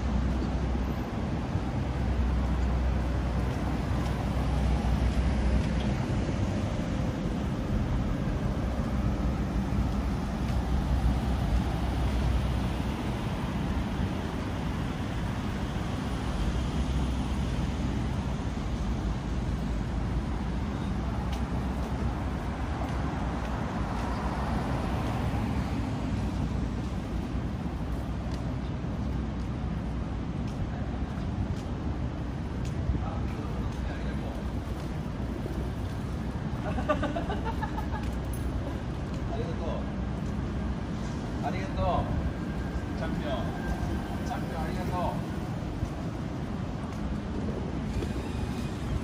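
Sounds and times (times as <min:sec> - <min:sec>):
street traffic rumble: 0:00.0 - 0:49.0.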